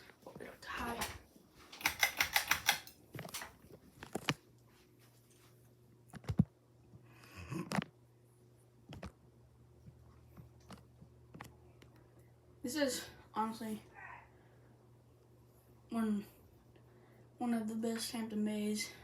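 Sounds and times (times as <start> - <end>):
ceiling fan motor humming: 0.0 - 19.0.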